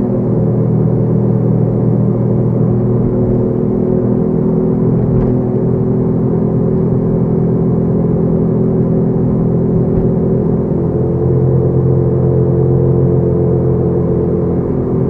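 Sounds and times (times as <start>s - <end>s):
car engine hum: 0.0s - 15.0s
road rumble inside car: 0.0s - 15.0s.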